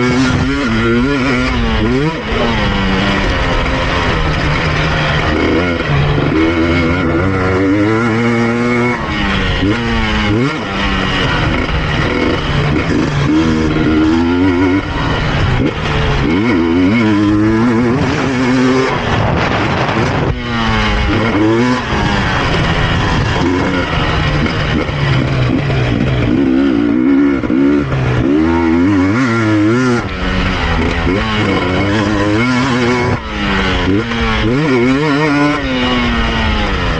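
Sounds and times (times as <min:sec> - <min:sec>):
two-stroke motorcycle engine revving: 0:00.0 - 0:36.9.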